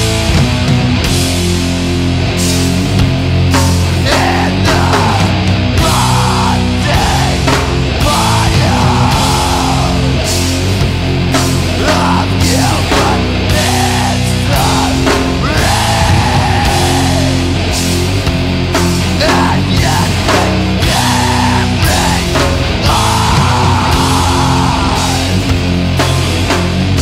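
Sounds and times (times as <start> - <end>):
heavy distorted hardcore music: 0.0 - 27.0.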